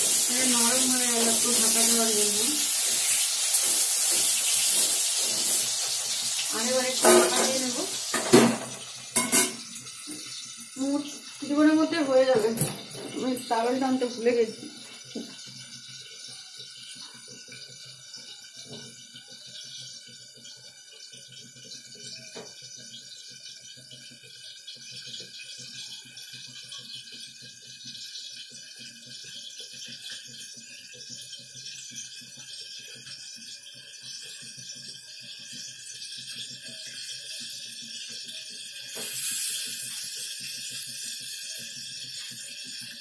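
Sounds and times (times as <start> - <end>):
eggplant frying in oil: 0.0 - 43.0.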